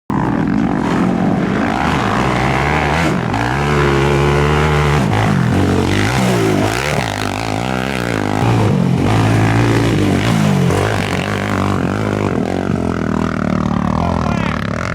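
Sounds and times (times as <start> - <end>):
quad bike engines revving: 0.1 - 14.9.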